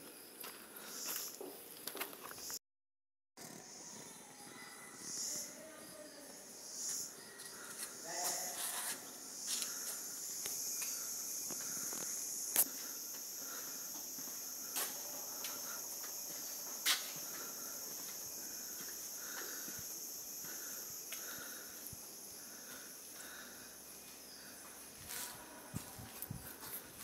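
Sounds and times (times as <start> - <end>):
insect chorus: 0.0 - 2.6, 3.4 - 27.0.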